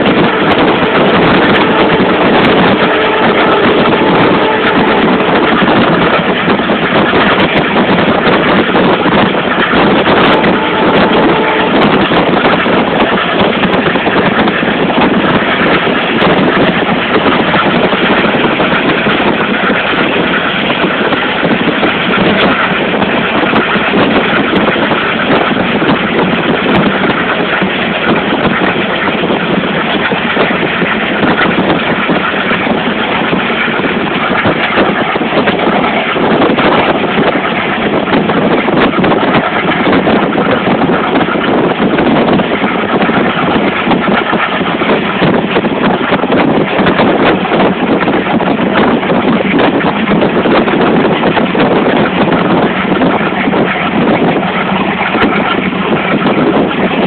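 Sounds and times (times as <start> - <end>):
moving train running noise: 0.0 - 57.0.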